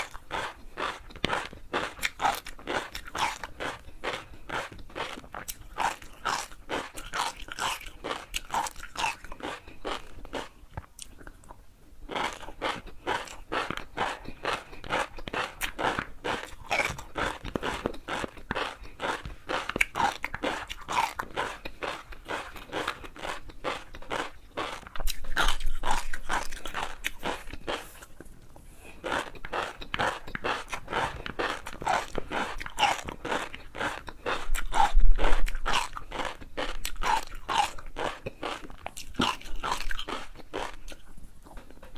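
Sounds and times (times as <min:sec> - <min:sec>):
chewing crunchy food: 0:00.0 - 0:41.9.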